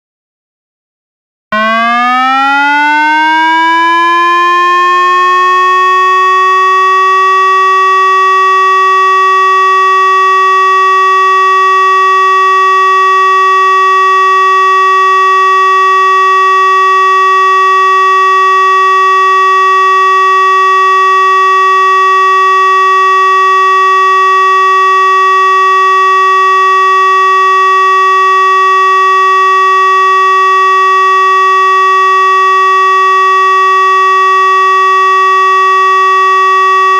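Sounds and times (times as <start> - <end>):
electronic siren steady tone: 1.6 - 36.9.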